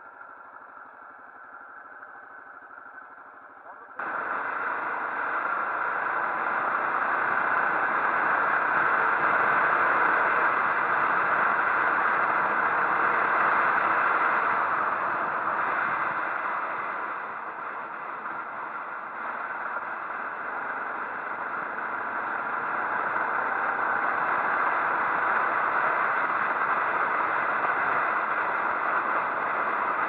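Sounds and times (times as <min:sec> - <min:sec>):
steady rushing noise: 0:04.0 - 0:30.0.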